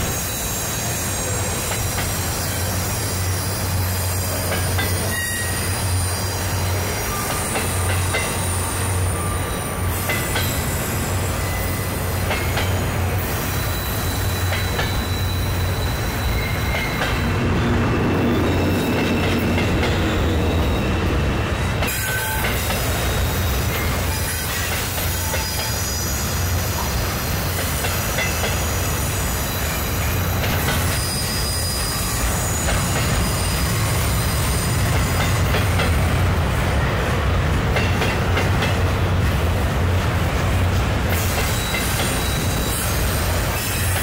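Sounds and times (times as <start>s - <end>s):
high-pitched wheel squeals: 0.0s - 35.7s, 41.2s - 44.0s
train wheels rumbling on rail: 0.0s - 44.0s.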